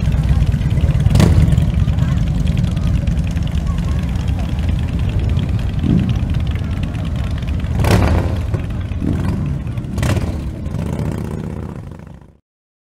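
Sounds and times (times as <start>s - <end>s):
motorcycle engines running: 0.0s - 12.4s.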